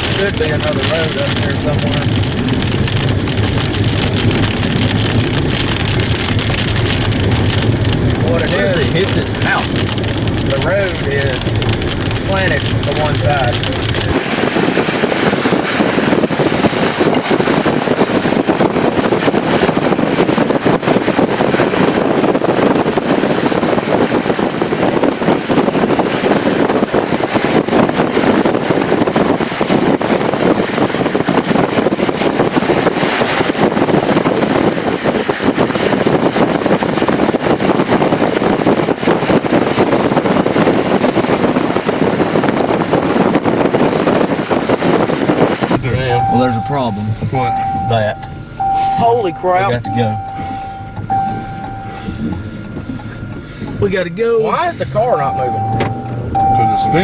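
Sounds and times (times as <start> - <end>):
strong wind on microphone: 0.0 - 53.9.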